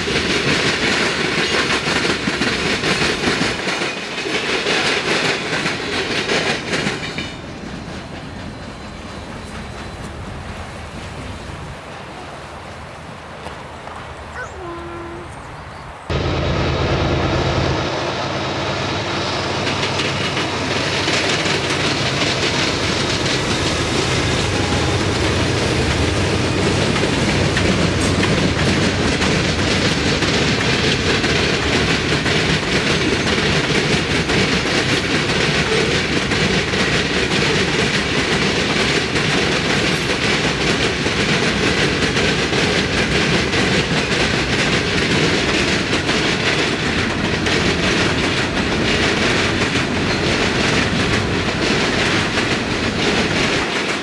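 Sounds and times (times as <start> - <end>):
train wheels clattering on rails: 0.0 - 11.9, 18.6 - 54.0.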